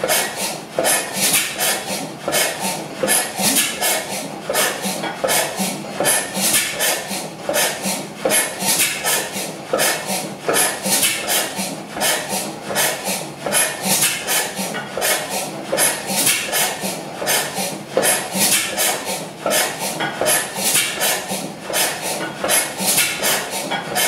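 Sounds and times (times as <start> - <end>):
stationary gas engine clattering: 0.0 - 24.0.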